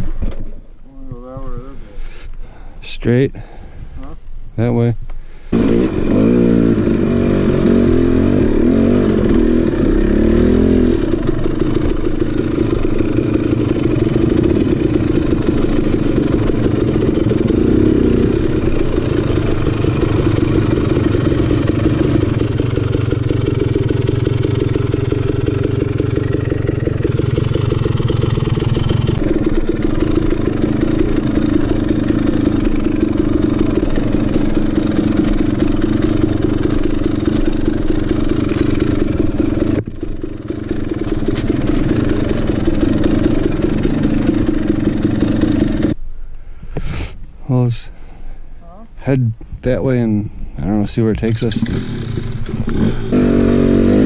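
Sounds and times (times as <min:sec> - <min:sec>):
dirt bike engine revving: 0:05.5 - 0:46.0, 0:51.1 - 0:54.0.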